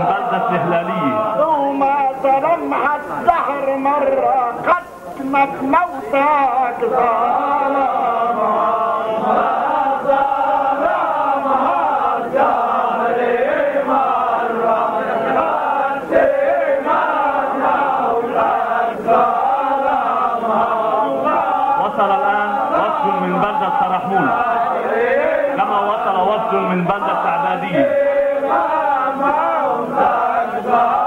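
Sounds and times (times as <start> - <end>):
men chanting together: 0.0 - 31.0.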